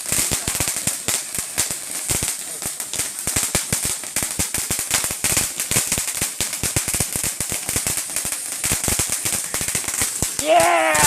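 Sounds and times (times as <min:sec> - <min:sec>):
fireworks crackling: 0:00.0 - 0:11.0
steady hiss: 0:00.0 - 0:11.0.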